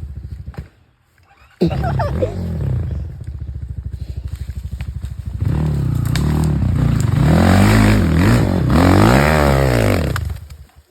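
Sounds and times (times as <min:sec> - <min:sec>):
off-road vehicle engine revving: 0:01.4 - 0:10.5.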